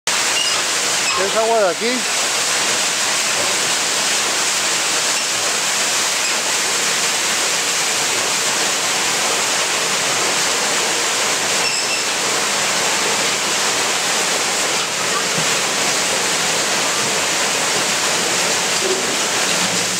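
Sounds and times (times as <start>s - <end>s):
water rushing over a water wheel: 0.1s - 19.9s.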